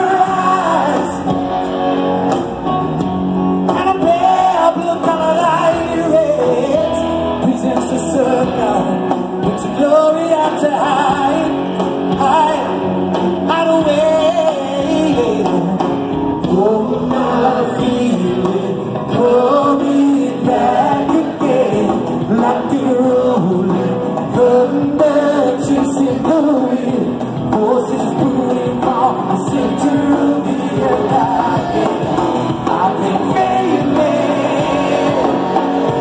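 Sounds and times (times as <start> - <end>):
man singing: 0.0 - 1.5, 3.6 - 36.0
rock band playing live: 0.0 - 36.0.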